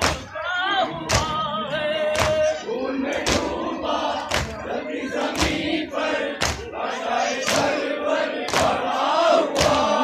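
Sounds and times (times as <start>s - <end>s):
crowd chanting together: 0.0s - 10.0s.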